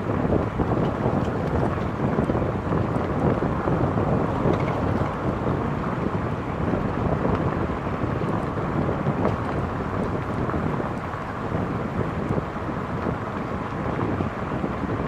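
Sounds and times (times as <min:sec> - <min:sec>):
road noise from car: 0:00.0 - 0:15.0
wind buffeting microphone: 0:00.0 - 0:15.0.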